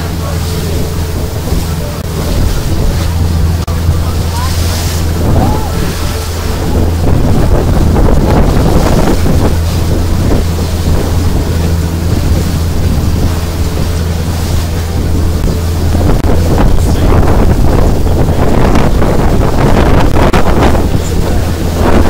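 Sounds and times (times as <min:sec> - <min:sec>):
boat engine droning: 0:00.0 - 0:22.0
sea wash: 0:00.0 - 0:22.0
wind buffeting microphone: 0:00.0 - 0:22.0.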